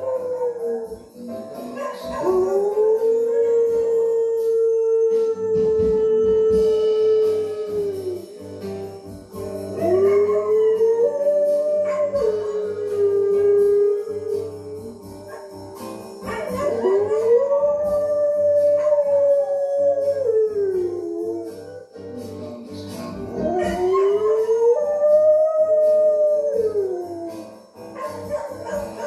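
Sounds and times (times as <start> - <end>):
music: 0.0 - 29.0
dog howling: 1.8 - 8.3, 9.8 - 15.6, 16.2 - 21.8, 23.3 - 29.0.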